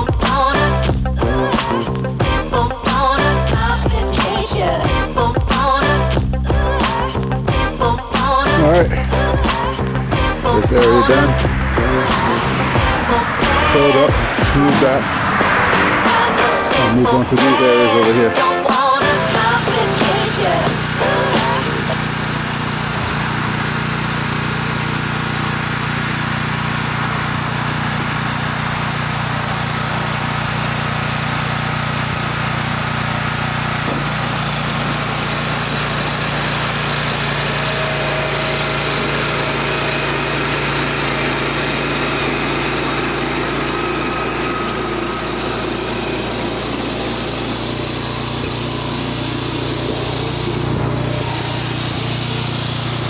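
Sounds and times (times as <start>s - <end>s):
tiller engine running: 0.0s - 53.0s.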